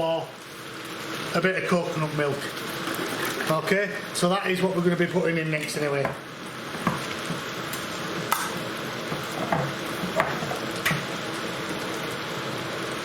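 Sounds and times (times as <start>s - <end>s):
curry bubbling and sizzling in pan: 0.0s - 13.0s.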